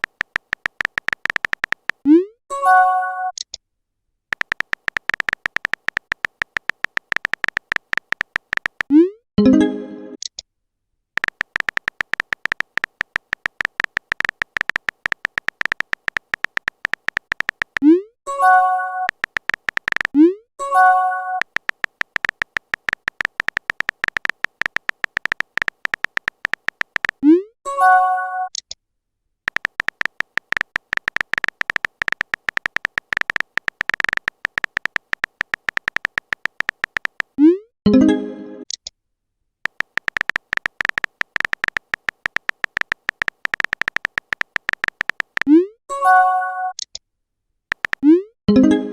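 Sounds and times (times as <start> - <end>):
beeping typing clicks: 0.0 - 3.5, 4.3 - 10.3, 11.2 - 27.4, 29.5 - 37.6, 39.7 - 45.7, 47.7 - 48.2.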